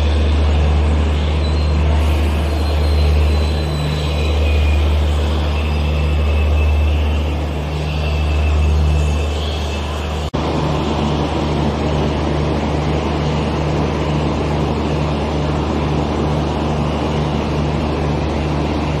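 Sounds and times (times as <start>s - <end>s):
station platform noise: 0.0s - 19.0s
train mechanical hum: 0.0s - 19.0s.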